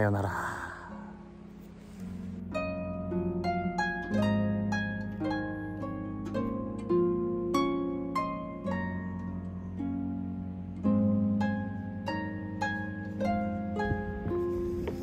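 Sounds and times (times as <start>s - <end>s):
harp music: 0.0s - 15.0s.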